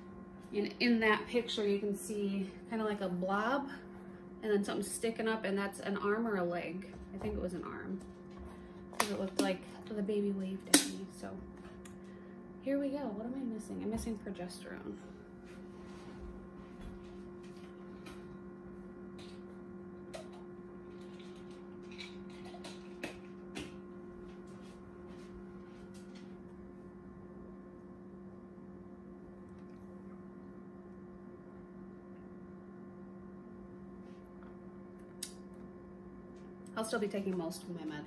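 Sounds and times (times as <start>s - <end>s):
low background hum: 0.0s - 38.0s.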